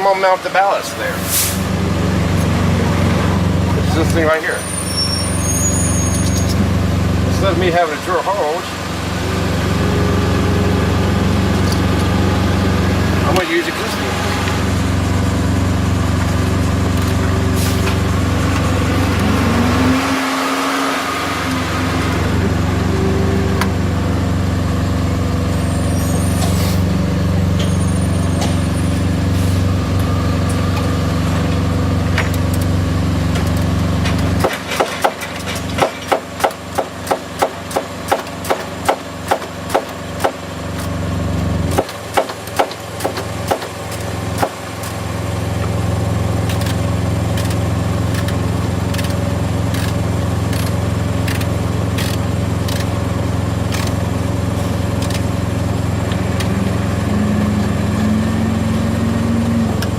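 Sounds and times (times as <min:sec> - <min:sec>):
diesel truck engine idling: 0:00.0 - 0:20.0, 0:21.2 - 0:59.9.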